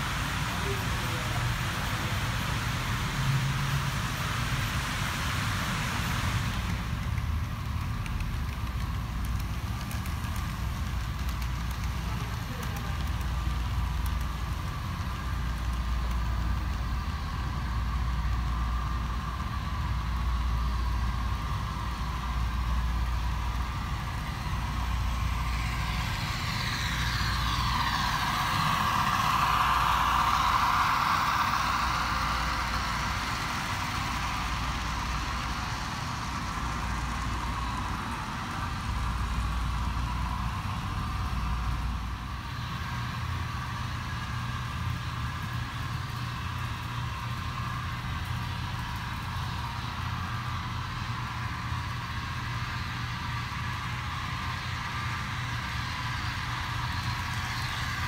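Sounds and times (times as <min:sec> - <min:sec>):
model trains humming: 0:00.0 - 0:58.0.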